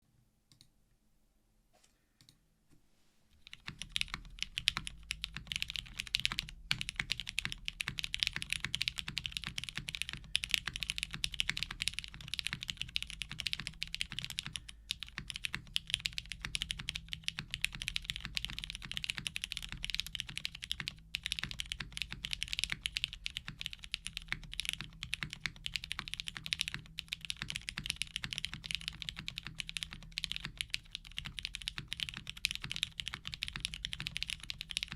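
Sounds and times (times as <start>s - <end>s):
fast mechanical keyboard typing: 3.4s - 34.9s.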